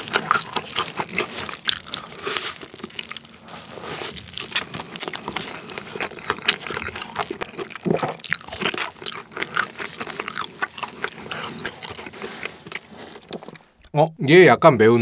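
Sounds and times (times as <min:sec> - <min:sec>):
crunching and chewing fried chicken: 0:00.0 - 0:13.8.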